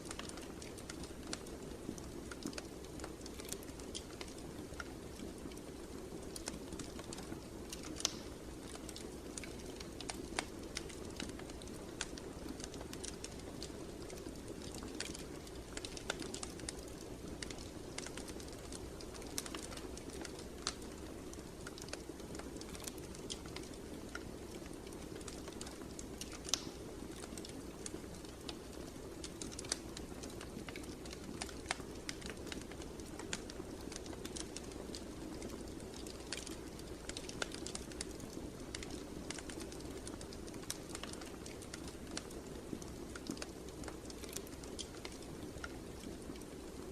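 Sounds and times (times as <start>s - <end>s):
fire rumbling: 0.0s - 46.9s
wood crackling and popping: 0.0s - 46.9s.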